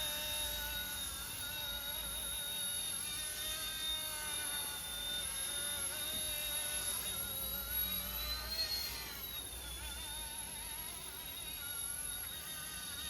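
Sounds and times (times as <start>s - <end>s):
rc helicopter motor whining: 0.0s - 13.0s.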